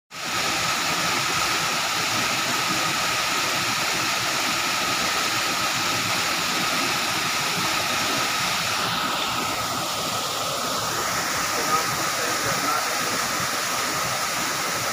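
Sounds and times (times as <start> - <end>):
waterfall rushing into pool: 0.1 - 14.9.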